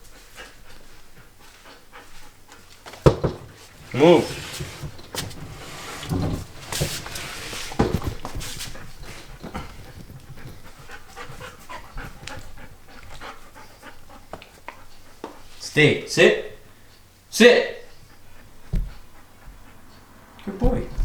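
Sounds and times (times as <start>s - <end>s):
dog panting: 0.0s - 15.6s, 17.8s - 21.0s
knocks and rustles of movement: 0.1s - 15.6s, 18.0s - 21.0s.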